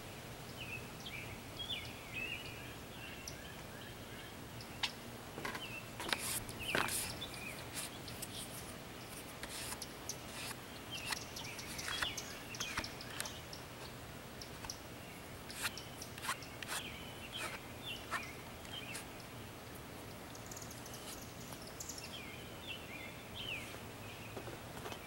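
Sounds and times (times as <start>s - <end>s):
birds chirping: 0.4s - 25.0s.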